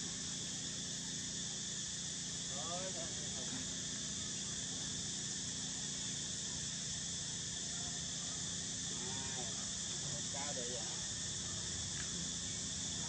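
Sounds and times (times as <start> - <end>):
insect chorus droning: 0.0 - 13.0
short insect call: 0.0 - 13.0.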